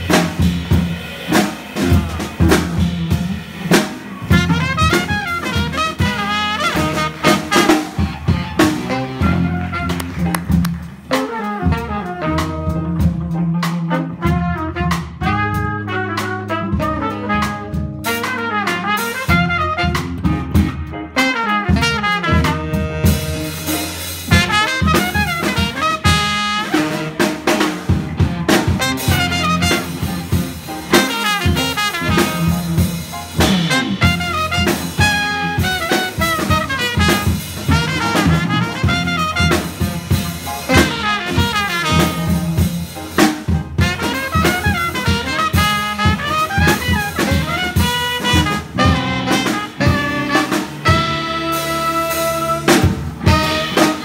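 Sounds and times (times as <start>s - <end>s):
drum kit: 0.0s - 54.0s
electric bass: 0.0s - 54.0s
trumpet: 0.0s - 54.0s
saxophone: 4.2s - 10.5s, 11.1s - 43.1s, 43.8s - 54.0s.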